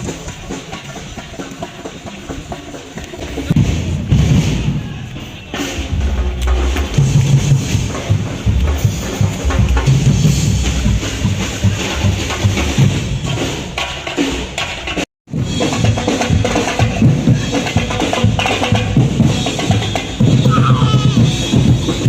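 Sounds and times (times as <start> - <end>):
music with drum beat: 0.0 - 22.0.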